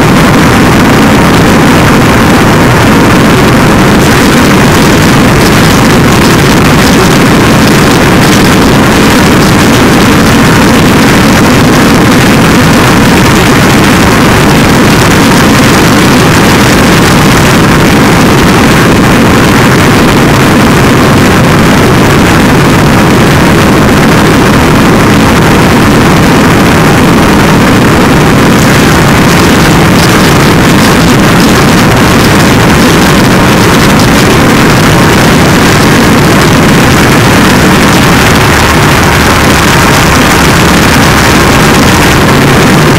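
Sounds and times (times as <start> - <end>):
distorted electronic noise: 0.0 - 42.9.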